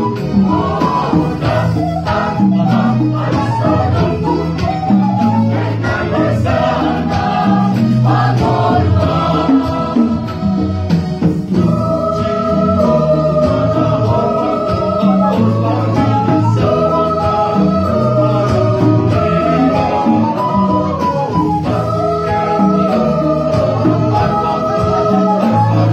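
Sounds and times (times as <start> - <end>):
mixed choir singing: 0.0 - 25.9.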